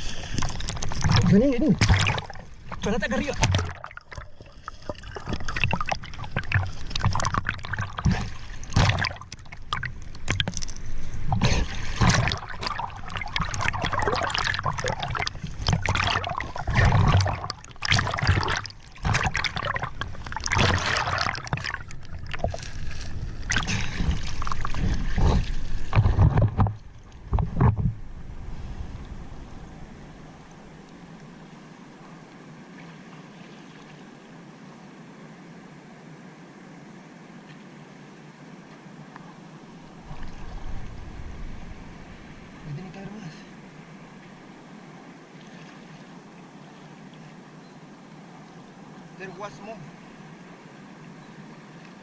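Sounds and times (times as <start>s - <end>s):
river water splashing: 0.0s - 52.0s.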